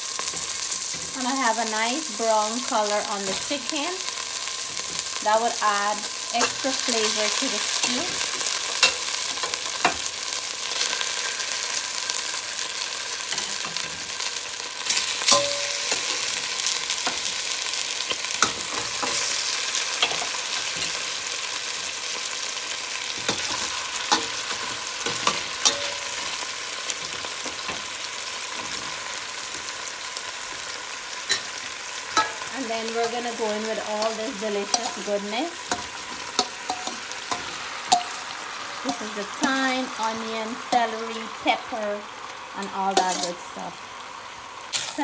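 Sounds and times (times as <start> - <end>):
chicken sizzling in oil: 0.0 - 45.0.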